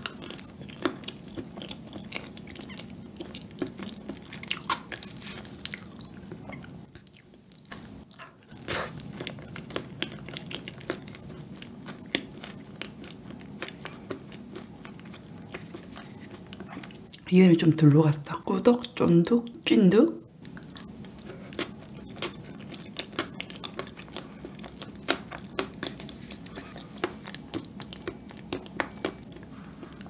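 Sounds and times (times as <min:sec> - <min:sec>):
wet chewing clicks and smacks: 0:00.0 - 0:17.3, 0:20.4 - 0:30.0.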